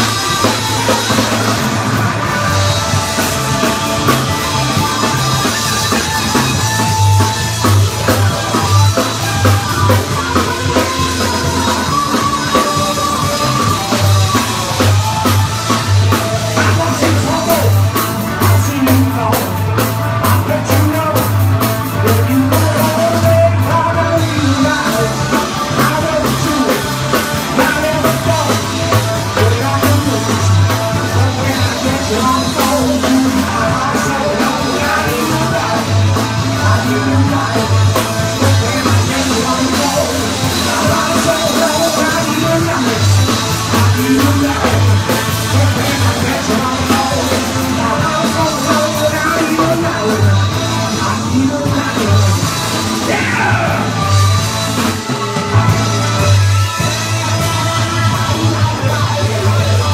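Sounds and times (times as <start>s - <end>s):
drum kit: 0.0s - 59.9s
electric guitar: 0.0s - 59.9s
person singing: 0.0s - 59.9s
repeating bass line: 0.0s - 59.9s.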